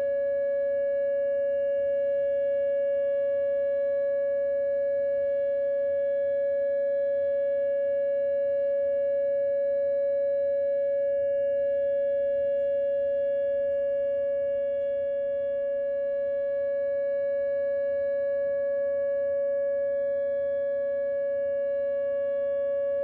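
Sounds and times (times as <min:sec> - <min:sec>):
warning siren steady tone: 0:00.0 - 0:23.0.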